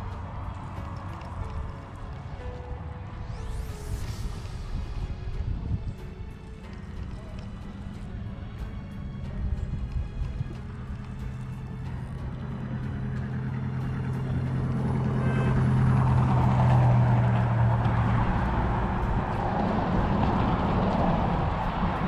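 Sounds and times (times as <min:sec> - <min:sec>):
rushing noise: 0:00.0 - 0:22.0
vehicle engine hum passing: 0:00.0 - 0:22.0.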